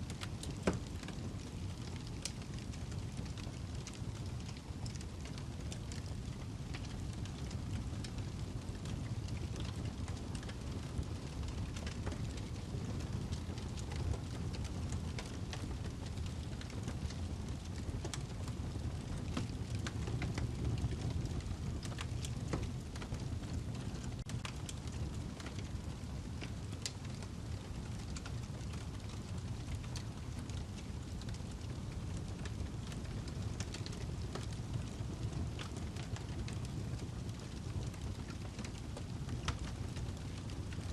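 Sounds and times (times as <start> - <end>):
burning log crackling and popping: 0.0 - 40.9
low rumble of flames: 0.0 - 40.9.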